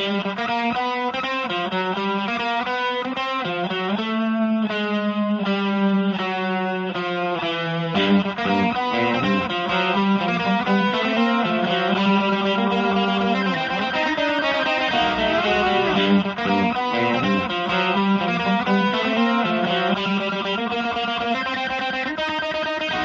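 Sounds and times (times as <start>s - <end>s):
electric guitar sustained notes: 0.0s - 23.0s.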